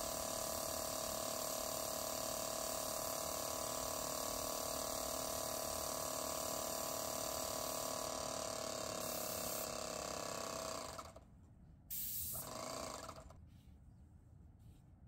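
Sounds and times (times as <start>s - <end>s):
paint sprayer hissing: 0.0s - 11.1s, 11.9s - 13.3s.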